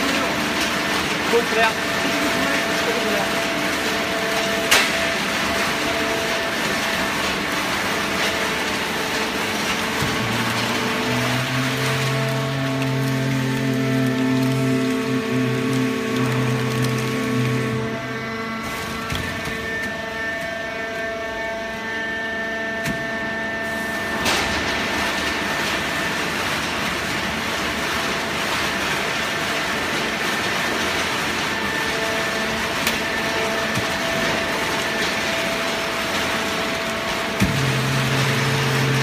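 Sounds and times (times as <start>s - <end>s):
machine humming: 0.0s - 39.0s.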